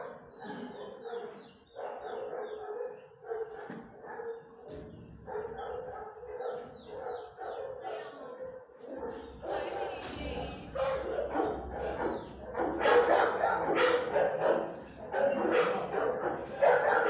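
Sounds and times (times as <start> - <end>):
dogs barking: 0.0 - 17.0.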